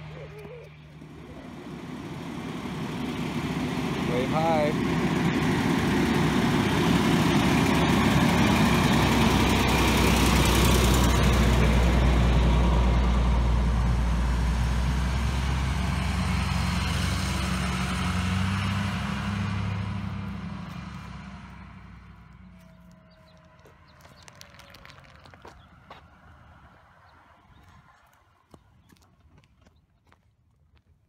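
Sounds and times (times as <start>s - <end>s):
fire engine diesel engine: 0.0s - 29.3s
truck engine: 0.0s - 29.8s.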